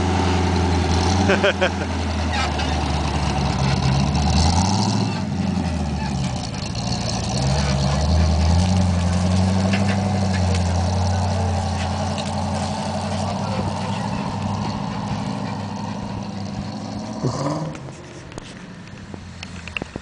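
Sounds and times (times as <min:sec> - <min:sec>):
off-road vehicle engine rumbling: 0:00.0 - 0:20.0.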